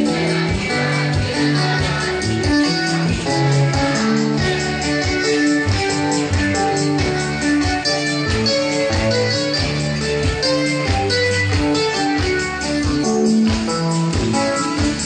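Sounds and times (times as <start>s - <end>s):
lively music with steady beat: 0.0s - 15.0s.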